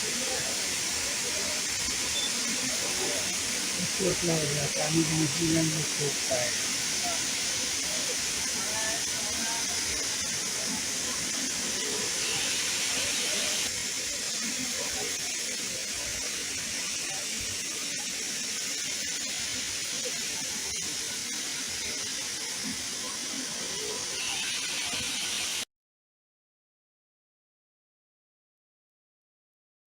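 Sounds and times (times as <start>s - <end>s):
waterfall rushing: 0.0s - 25.6s.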